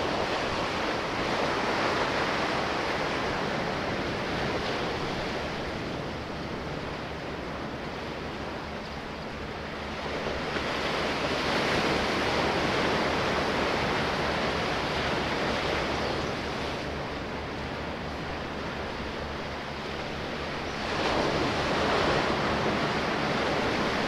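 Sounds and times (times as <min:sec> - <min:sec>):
sea waves washing in: 0:00.0 - 0:24.0.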